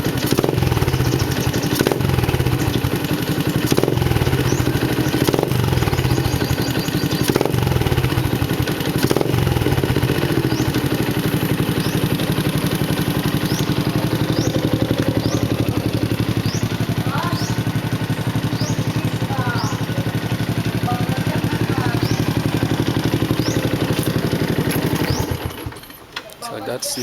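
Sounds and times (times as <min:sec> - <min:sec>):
motorcycle engine revving: 0:00.0 - 0:26.1.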